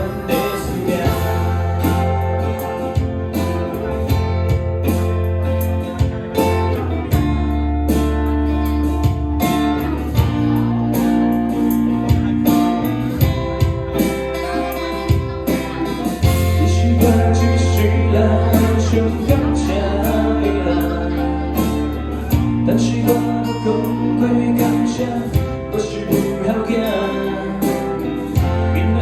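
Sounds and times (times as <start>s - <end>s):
bass guitar: 0.0s - 29.0s
drum kit steady beat: 0.0s - 29.0s
guitars: 0.0s - 29.0s.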